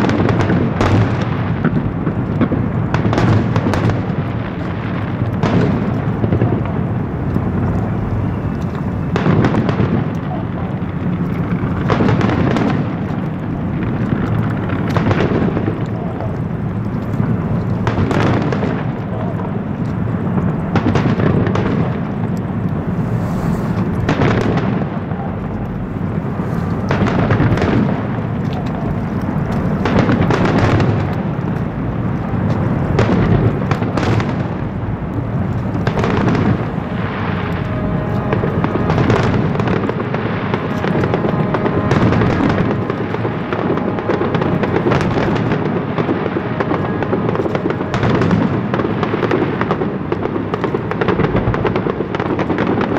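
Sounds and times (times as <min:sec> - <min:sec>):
fireworks booming and crackling: 0:00.0 - 0:52.9.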